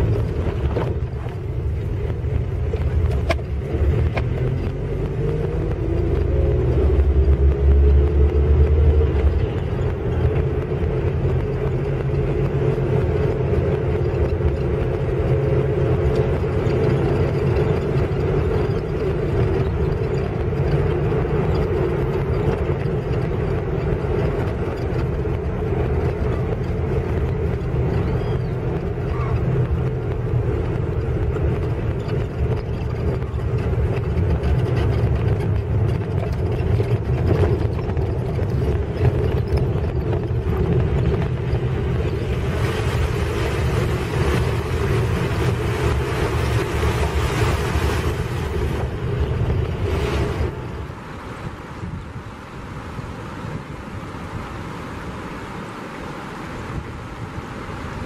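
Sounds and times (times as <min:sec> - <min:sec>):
tyre rumble on asphalt: 0:00.0 - 0:51.0
car engine hum: 0:00.0 - 0:58.0.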